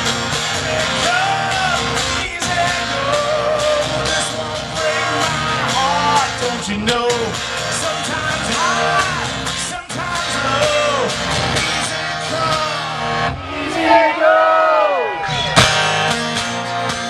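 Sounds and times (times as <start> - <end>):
live rock band playing: 0.0 - 14.0, 15.2 - 17.0
bending lead guitar line: 0.0 - 17.0.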